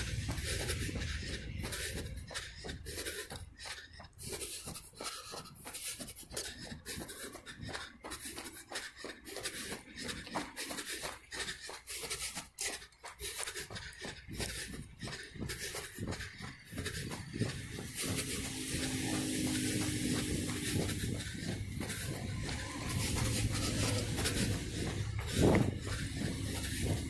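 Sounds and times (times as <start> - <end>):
hard breathing: 0.0 - 27.0
running footsteps on dirt trail: 0.0 - 27.0.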